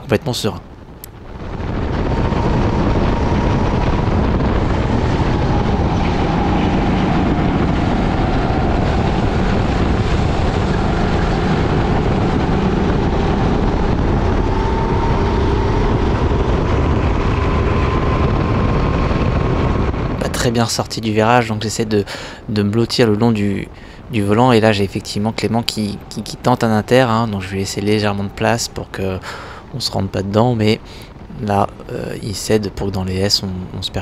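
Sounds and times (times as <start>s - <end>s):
wind noise: 0.0s - 34.0s.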